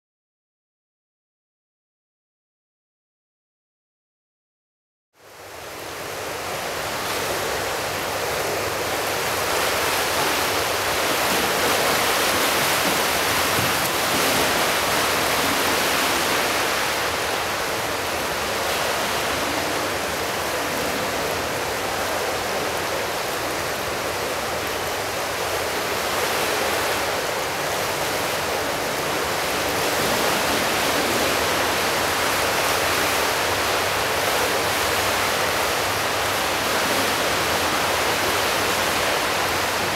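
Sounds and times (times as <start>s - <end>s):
indoor swimming pool ambience: 5.5s - 39.9s.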